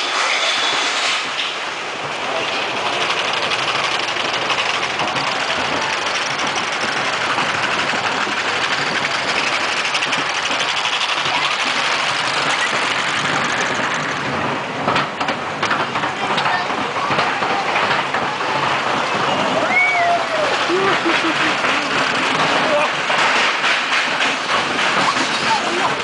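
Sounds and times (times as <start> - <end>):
roller coaster wheels rattling: 0.0 - 26.0.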